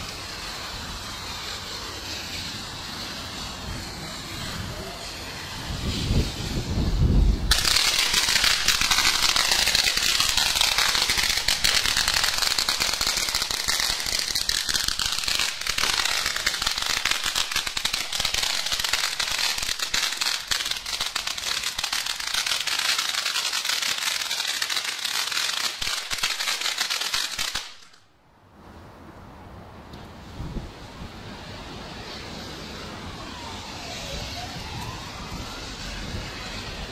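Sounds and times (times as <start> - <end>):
firework fountain hissing and crackling: 0.0 - 28.2, 29.4 - 36.9.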